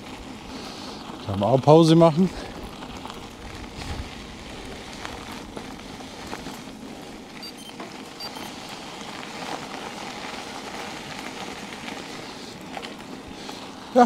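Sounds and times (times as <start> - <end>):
bicycle tyres rolling over gravel: 0.0 - 14.0.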